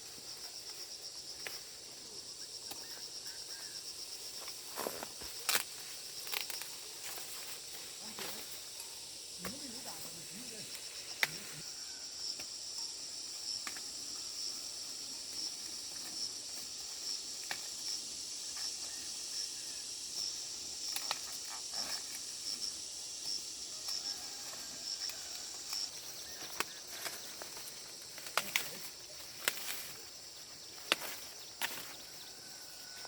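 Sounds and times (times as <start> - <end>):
insects trilling: 0.0 - 33.0
pulsing insect chirp: 0.0 - 33.0.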